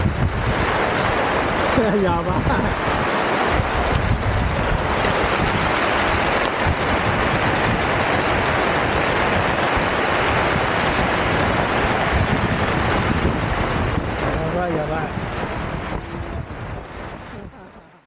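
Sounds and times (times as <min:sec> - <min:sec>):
wind buffeting microphone: 0:00.0 - 0:17.9
rain on a tarp: 0:00.0 - 0:18.0.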